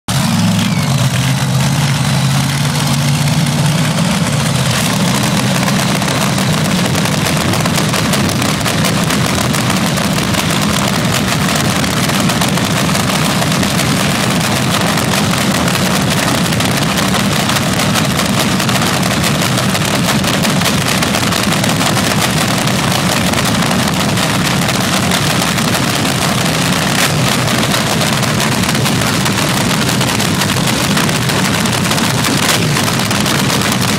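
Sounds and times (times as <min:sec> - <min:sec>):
drag car engine idling: 0:00.1 - 0:33.9.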